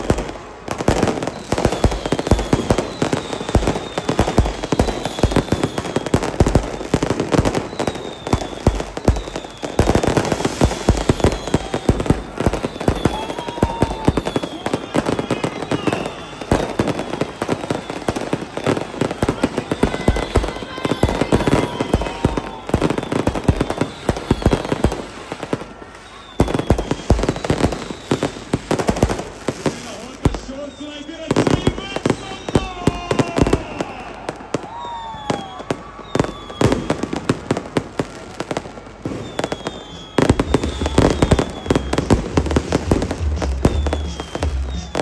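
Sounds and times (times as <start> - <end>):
fireworks crackling and banging: 0.0 - 45.0.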